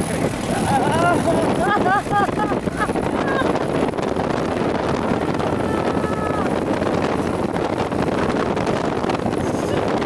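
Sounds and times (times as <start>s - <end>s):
motorboat engine running: 0.0s - 10.0s
wind buffeting microphone: 0.0s - 10.0s.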